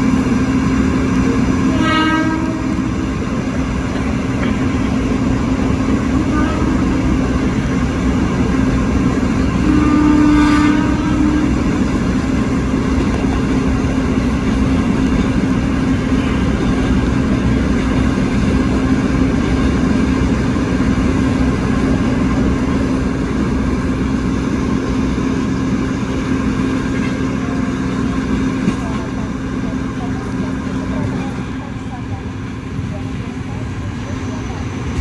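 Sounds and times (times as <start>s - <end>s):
electric train running: 0.0s - 35.0s.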